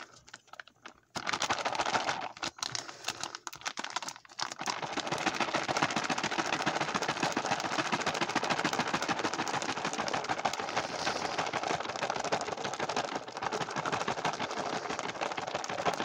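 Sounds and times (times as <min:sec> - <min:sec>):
plastic pouch crinkling: 0:00.0 - 0:16.0.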